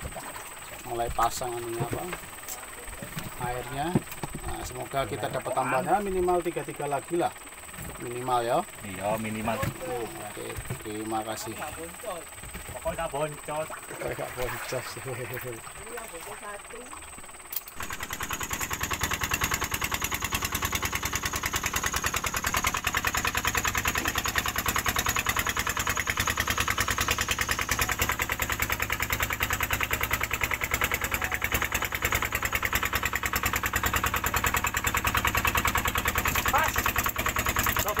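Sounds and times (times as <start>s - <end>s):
boat engine puttering: 0.0s - 38.0s.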